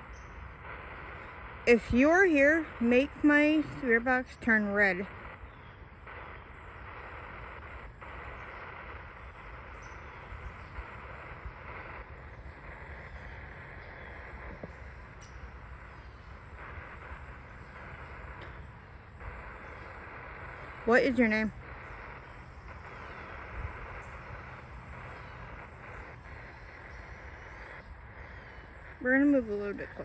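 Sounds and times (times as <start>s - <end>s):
faint ticks of radio tuning: 0.0s - 30.0s
radio static hiss: 0.0s - 30.0s.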